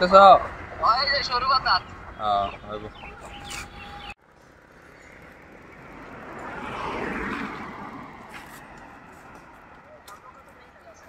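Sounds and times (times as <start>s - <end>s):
vehicle passing on highway: 0.0s - 11.0s.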